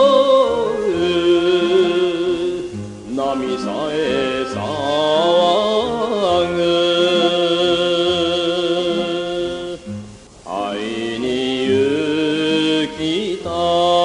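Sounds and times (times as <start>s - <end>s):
low musical accompaniment: 0.0s - 14.0s
man singing with vibrato: 0.0s - 14.0s.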